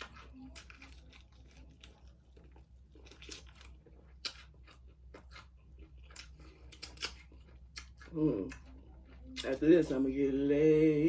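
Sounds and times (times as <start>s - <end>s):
person chewing crunchy food: 0.0s - 10.7s.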